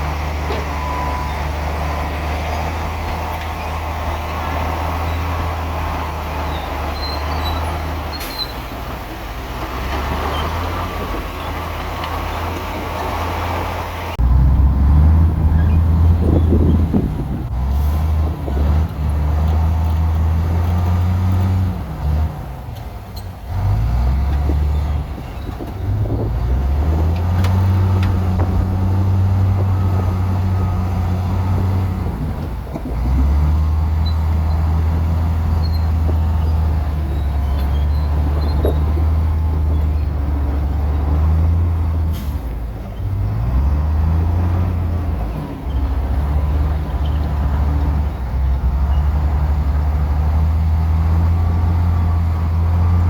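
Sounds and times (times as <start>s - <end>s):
bulldozer diesel engine revving: 0.0s - 53.0s.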